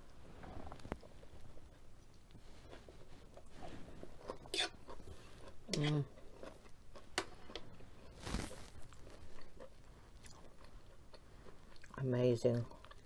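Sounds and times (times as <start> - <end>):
person chewing food: 0.1 - 13.0.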